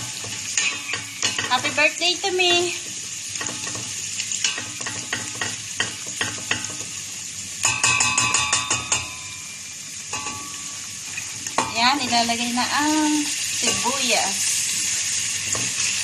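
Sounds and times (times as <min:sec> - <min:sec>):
garlic sizzling in oil: 0:00.0 - 0:16.0.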